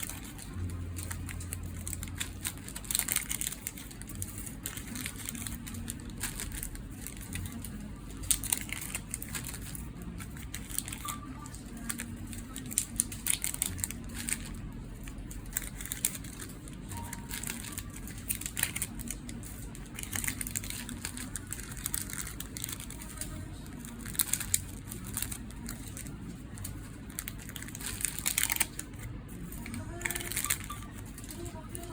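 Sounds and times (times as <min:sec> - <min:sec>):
crinkling of small parts: 0:00.0 - 0:31.9
low steady hum: 0:00.0 - 0:31.9.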